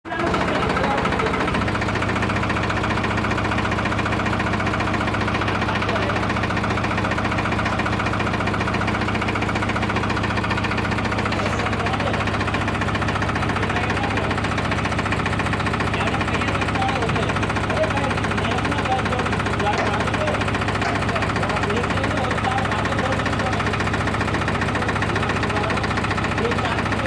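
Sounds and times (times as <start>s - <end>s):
tractor engine chugging: 0.0s - 27.0s.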